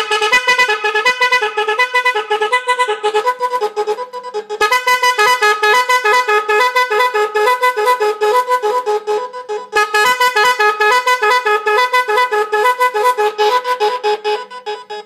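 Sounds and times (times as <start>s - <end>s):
multi-tone electric car horn: 0.0s - 15.0s.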